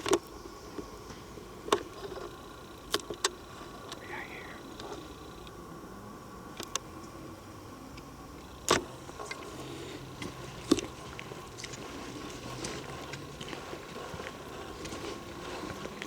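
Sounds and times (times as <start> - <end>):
faint ticks: 0.0 - 5.6, 6.5 - 7.2, 7.9 - 16.0.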